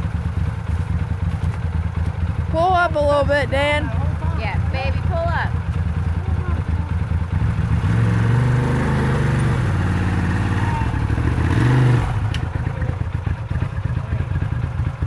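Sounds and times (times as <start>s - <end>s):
utv engine revving and idling: 0.0s - 15.0s.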